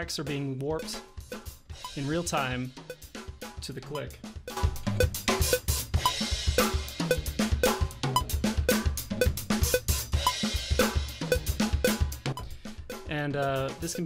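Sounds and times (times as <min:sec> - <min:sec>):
acoustic drum kit groove: 0:00.0 - 0:14.0.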